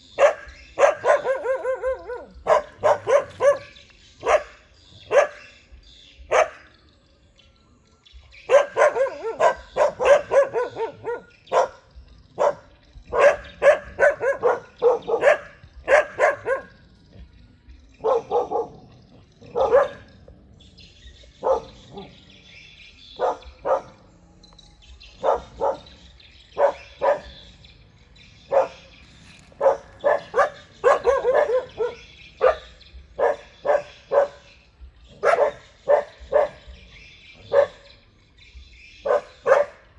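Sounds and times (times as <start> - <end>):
dogs barking: 0.0 - 6.8, 8.4 - 24.2, 25.1 - 39.9.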